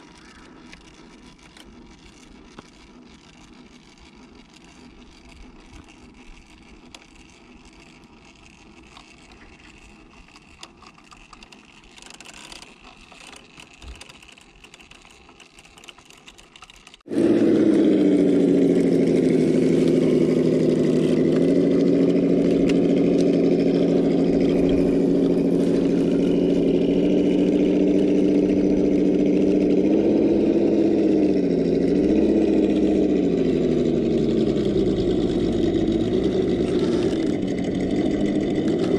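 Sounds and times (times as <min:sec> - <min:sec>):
electric motor and gearbox whining: 0:00.0 - 0:38.9.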